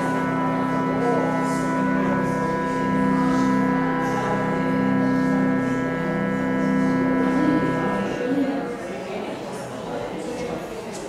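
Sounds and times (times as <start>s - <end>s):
electronic organ sustained chord: 0.0s - 9.0s.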